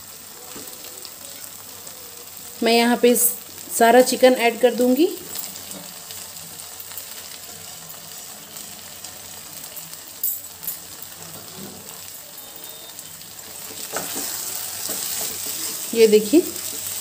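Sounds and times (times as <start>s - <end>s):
gravy sizzling in a pan: 0.0s - 17.0s.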